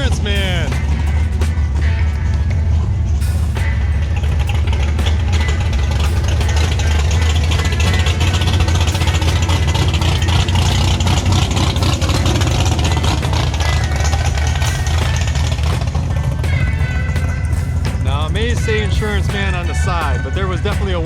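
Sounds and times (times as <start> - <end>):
car engine exhaust rumble: 0.0 - 21.0.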